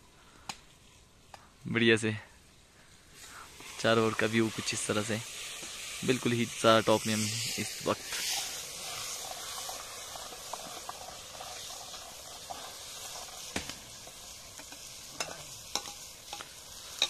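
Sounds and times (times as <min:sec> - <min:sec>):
meat sizzling in a pot: 0:03.0 - 0:17.0.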